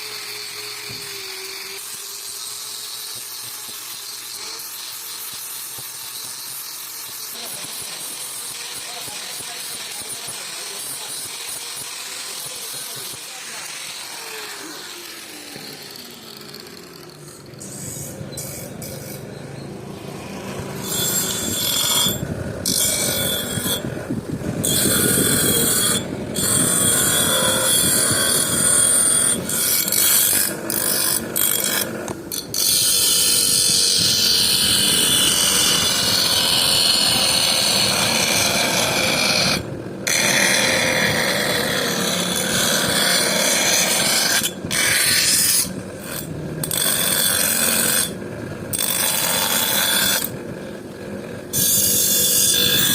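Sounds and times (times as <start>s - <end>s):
knife blade grating on sharpener: 0.0s - 50.4s, 51.5s - 52.9s.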